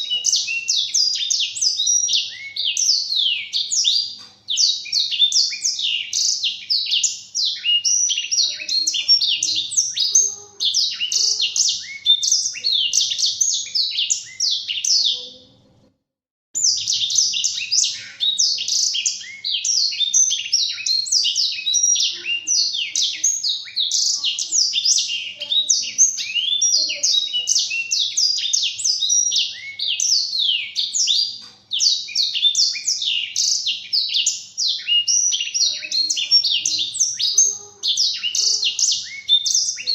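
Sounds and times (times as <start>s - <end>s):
bird twittering song: 0.0s - 15.8s, 16.6s - 39.9s.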